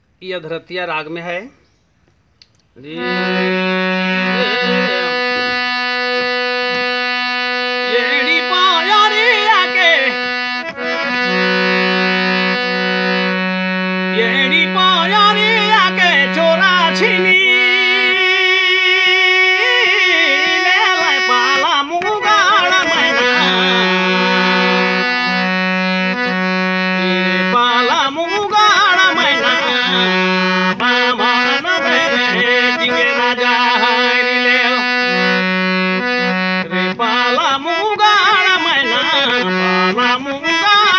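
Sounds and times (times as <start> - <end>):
reed instrument melody: 2.9 - 40.9.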